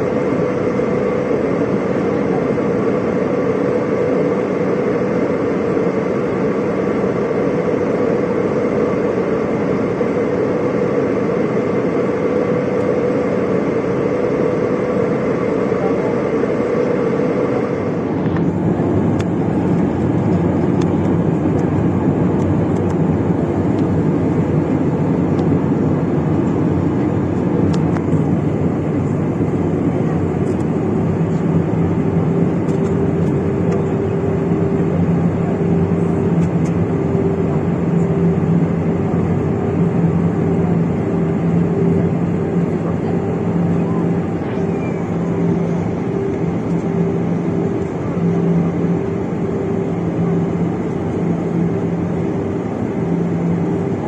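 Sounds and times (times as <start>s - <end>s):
jet airliner cabin drone: 0.0s - 54.0s.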